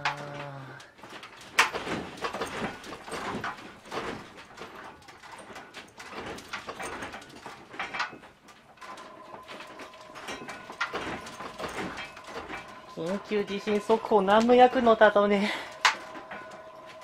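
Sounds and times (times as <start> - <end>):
household objects rattling: 0.0 - 17.0.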